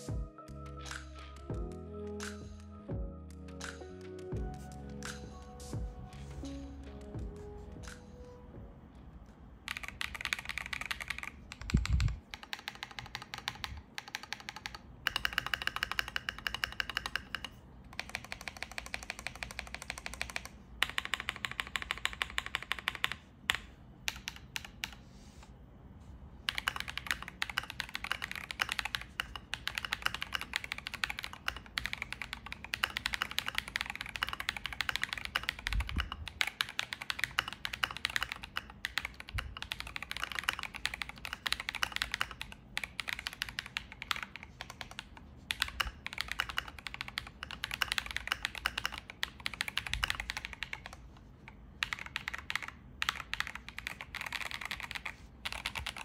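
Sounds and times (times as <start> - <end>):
mechanical keyboard typing: 9.7 - 25.0, 26.5 - 56.0.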